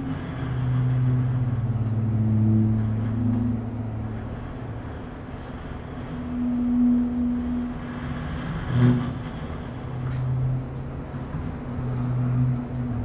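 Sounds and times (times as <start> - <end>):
drum feedback low hum: 0.0 - 13.0
higher steady feedback tones: 0.0 - 13.0.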